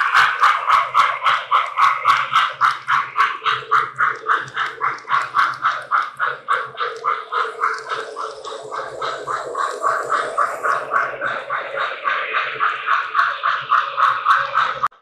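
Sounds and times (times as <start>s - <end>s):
electronic steam locomotive chuffing: 0.0s - 15.0s.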